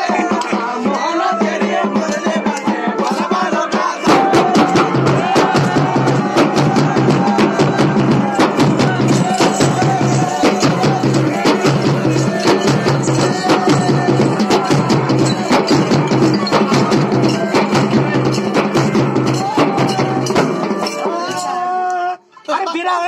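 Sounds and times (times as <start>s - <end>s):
wedding dance music with drums: 0.0s - 23.0s.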